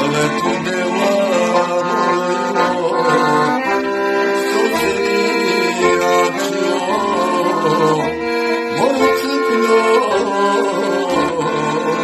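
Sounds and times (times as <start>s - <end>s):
button accordion melody: 0.0s - 12.0s
man singing: 0.0s - 12.0s.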